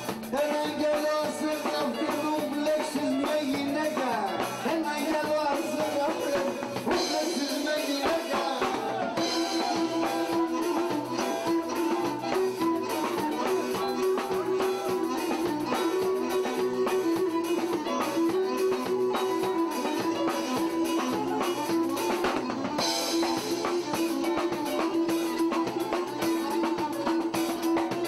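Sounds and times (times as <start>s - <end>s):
bass guitar: 0.0s - 28.0s
drum kit steady beat: 0.0s - 28.0s
keyboards: 0.0s - 28.0s.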